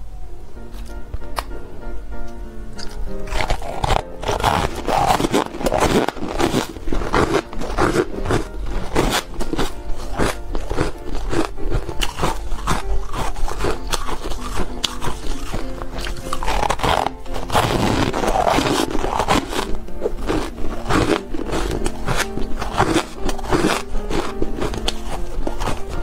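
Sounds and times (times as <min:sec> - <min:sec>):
background music: 0:00.0 - 0:26.0
ice being chewed crunching: 0:02.8 - 0:26.0.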